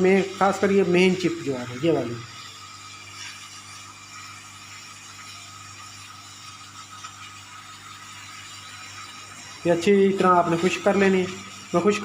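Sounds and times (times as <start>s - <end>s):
hot air gun blowing: 0.0s - 12.0s.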